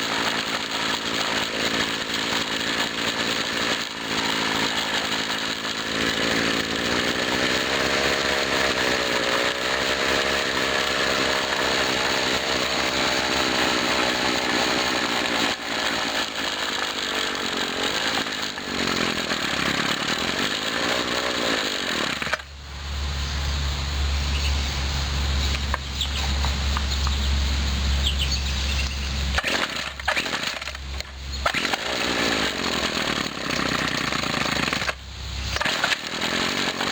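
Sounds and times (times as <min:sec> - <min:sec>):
string trimmer engine revving: 0:00.0 - 0:22.5, 0:25.2 - 0:36.9.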